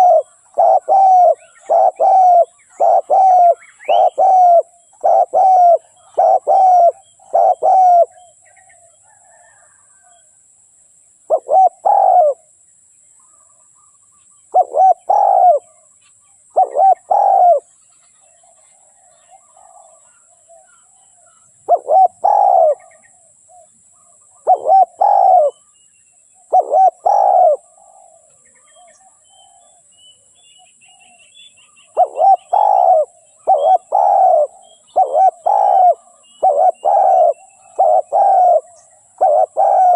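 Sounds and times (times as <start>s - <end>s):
dove cooing: 0.0s - 10.1s, 11.3s - 12.5s, 14.5s - 15.8s, 16.5s - 17.7s, 18.4s - 25.6s, 26.5s - 29.8s, 31.8s - 39.9s.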